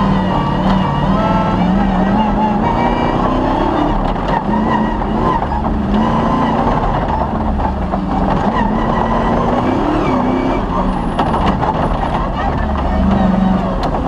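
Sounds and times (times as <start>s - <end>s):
rally car engine revving: 0.0s - 14.0s
road and tyre rumble: 0.0s - 14.0s.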